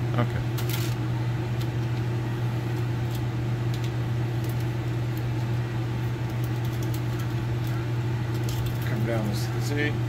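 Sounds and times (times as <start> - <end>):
vent hood blower humming: 0.0 - 10.0.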